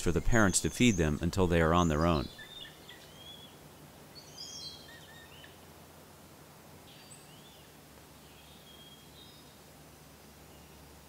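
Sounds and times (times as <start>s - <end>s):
low woodland hum: 0.0s - 11.0s.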